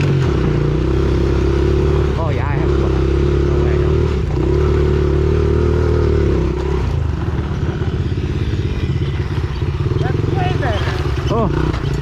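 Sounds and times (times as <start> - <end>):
pit bike engine revving: 0.0 - 12.0.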